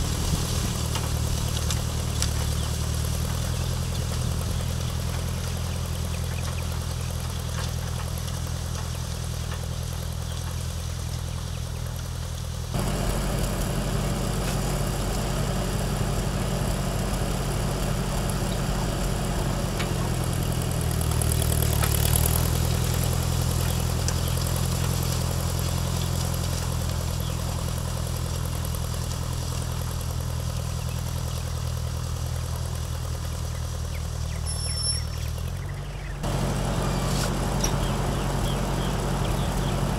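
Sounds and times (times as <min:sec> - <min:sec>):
tractor engine working: 0:00.0 - 0:39.9.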